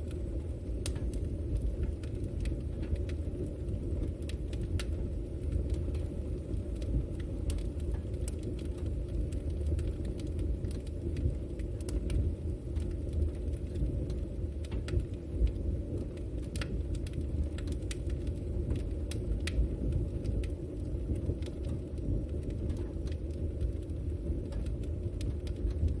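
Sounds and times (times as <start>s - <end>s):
campfire crackling and popping: 0.0s - 26.0s
steady low rumble: 0.0s - 26.0s.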